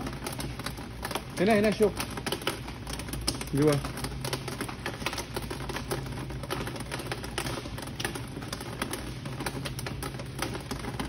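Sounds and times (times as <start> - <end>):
rain pattering on roof: 0.0 - 11.0
steady low hum: 0.0 - 11.0.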